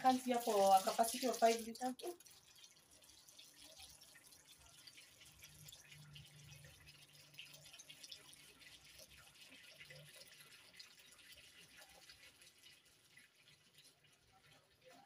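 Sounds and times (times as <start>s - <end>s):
water trickling into basin: 0.0s - 15.0s.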